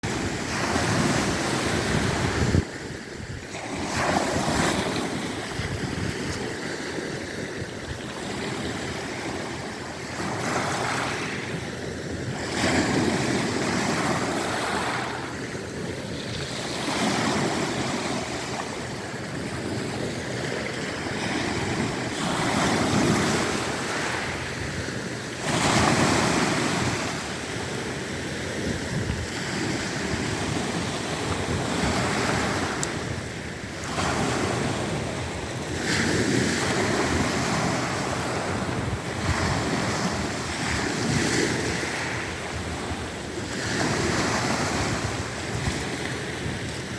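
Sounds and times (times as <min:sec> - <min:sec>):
waves breaking: 0:00.0 - 0:46.9.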